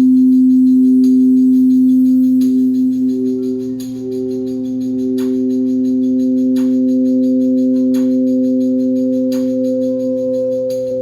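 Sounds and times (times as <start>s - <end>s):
singing bowls ringing: 0.0s - 11.0s.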